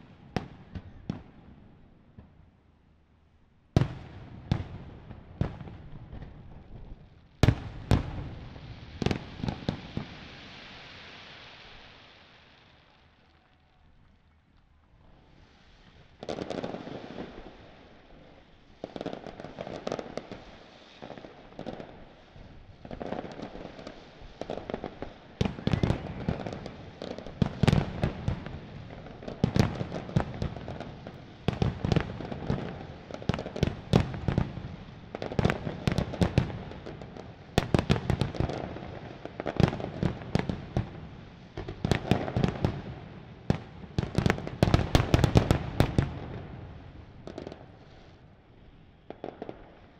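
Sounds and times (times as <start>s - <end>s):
fireworks crackling: 3.8s - 49.9s.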